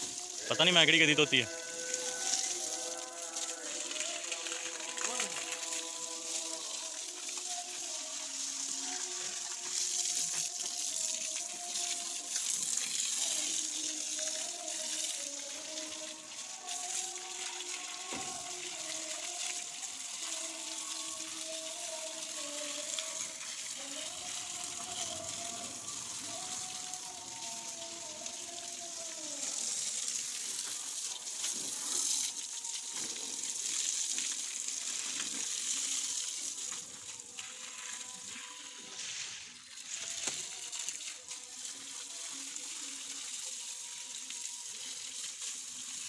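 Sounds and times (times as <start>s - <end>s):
water splashing on steel: 0.0s - 43.2s
hose spraying water: 0.0s - 46.0s.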